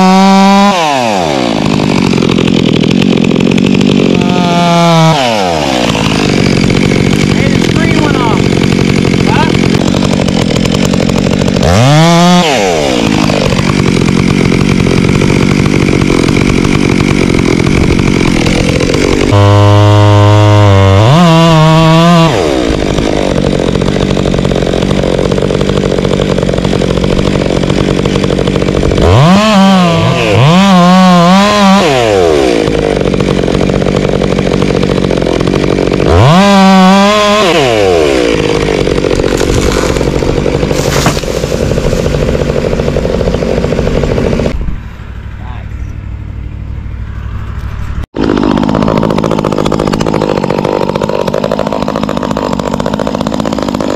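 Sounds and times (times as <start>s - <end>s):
chainsaw revving and cutting: 0.0s - 44.6s, 48.0s - 53.9s.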